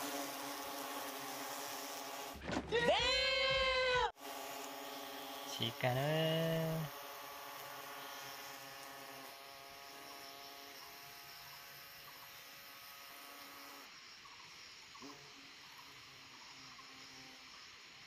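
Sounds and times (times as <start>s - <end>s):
wasp wings buzzing: 0.0s - 2.4s, 4.2s - 18.0s.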